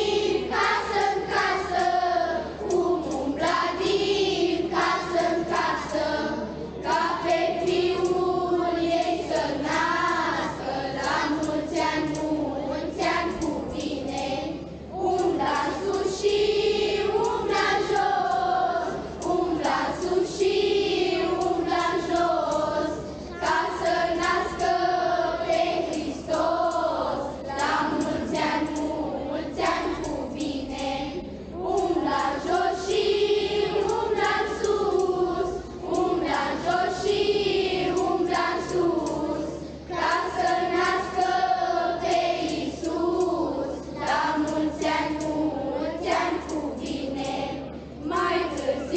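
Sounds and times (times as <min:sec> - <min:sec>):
children's choir singing a carol: 0:00.0 - 0:48.9.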